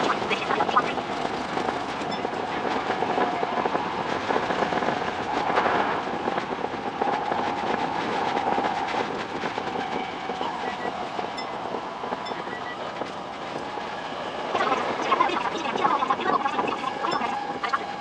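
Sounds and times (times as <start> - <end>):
train steady whine: 0.0 - 18.0.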